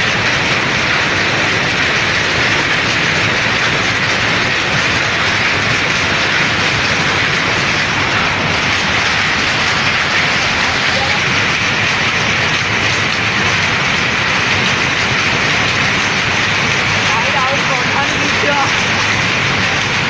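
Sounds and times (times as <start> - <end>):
weaving machinery clatter: 0.0 - 20.0.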